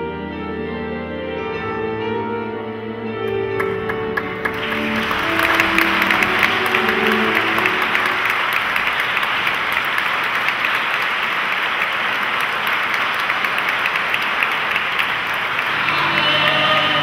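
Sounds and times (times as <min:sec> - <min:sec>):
audience applauding: 0:03.3 - 0:17.0.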